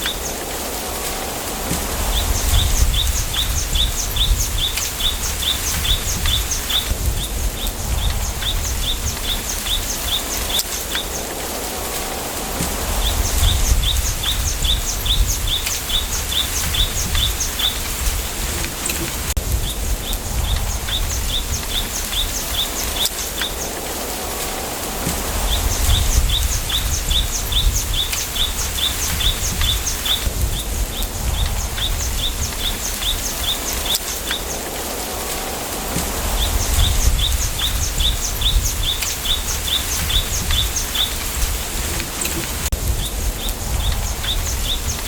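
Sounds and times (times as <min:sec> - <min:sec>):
gusty wind rumble: 0:00.0 - 0:45.0.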